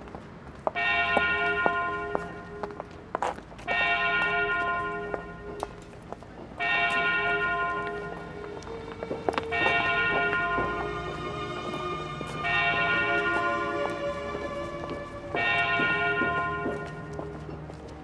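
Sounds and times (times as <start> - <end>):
church bell tolling: 0.7 - 2.8, 3.6 - 5.8, 6.6 - 17.8.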